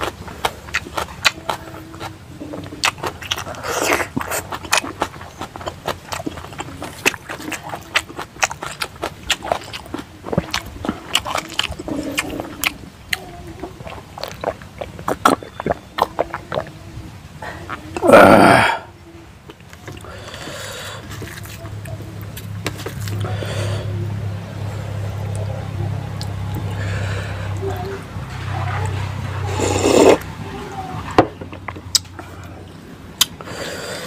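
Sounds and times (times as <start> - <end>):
person chewing food: 0.0 - 30.4, 31.0 - 34.0.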